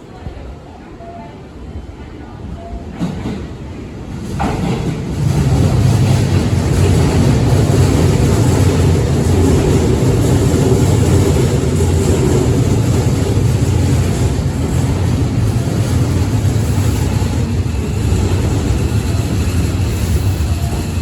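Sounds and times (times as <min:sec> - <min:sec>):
train running rumble: 0:02.6 - 0:21.0.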